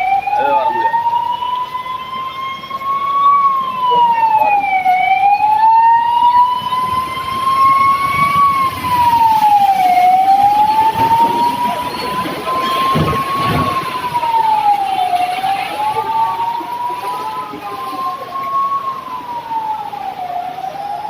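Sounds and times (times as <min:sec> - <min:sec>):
emergency vehicle siren wailing: 0:00.0 - 0:21.0.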